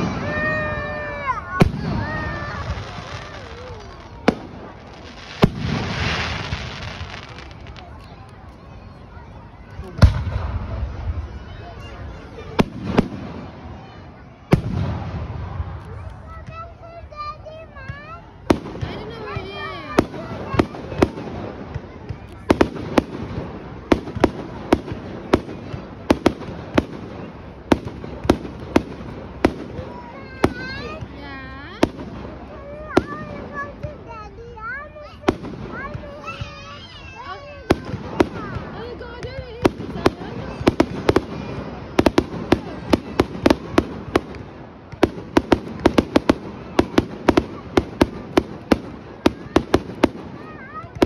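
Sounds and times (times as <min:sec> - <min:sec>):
fireworks bangs: 0:00.0 - 0:51.0
steady background noise: 0:00.0 - 0:51.0.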